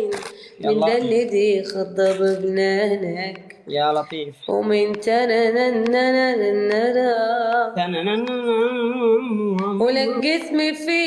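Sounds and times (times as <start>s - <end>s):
woman singing unaccompanied: 0.0s - 3.7s, 4.5s - 11.0s.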